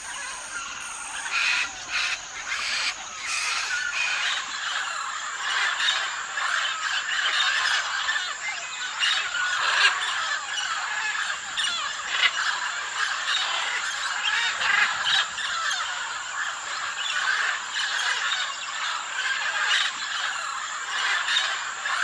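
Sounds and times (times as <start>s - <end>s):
birds calling: 0.0s - 22.0s
frogs calling: 0.0s - 22.0s.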